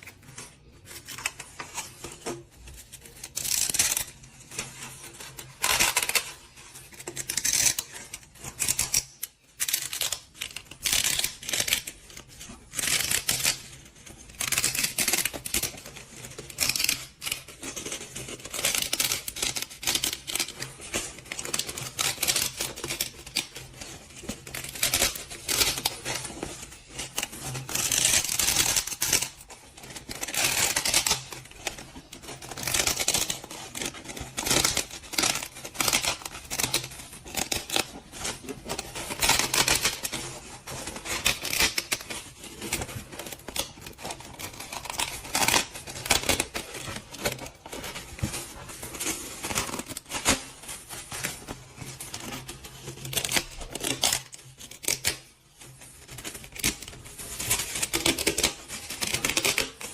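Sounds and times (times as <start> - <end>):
scraping and rustling by hand: 0.0 - 59.9.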